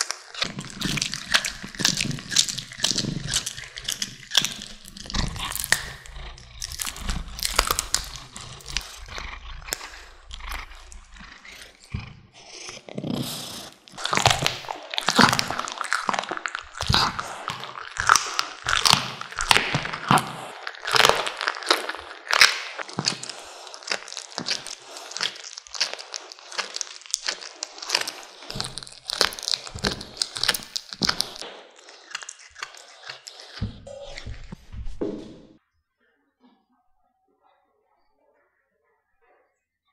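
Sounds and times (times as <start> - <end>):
cat crunching meat and bone: 0.0 - 34.7.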